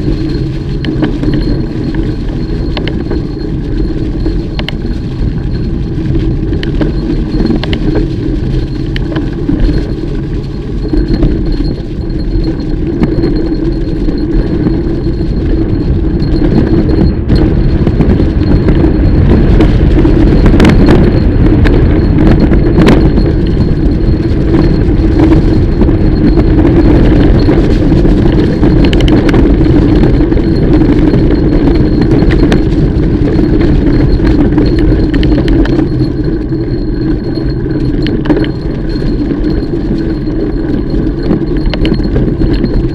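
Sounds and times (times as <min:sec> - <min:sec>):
bike rattling and clicking: 0:00.0 - 0:42.9
bike tyres rumbling on dirt: 0:00.0 - 0:42.9
wind on microphone: 0:00.0 - 0:42.9.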